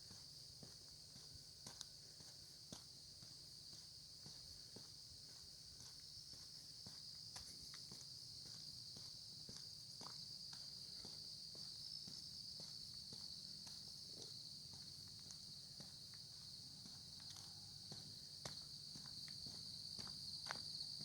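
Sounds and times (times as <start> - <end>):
footsteps walking: 0.0 - 20.8.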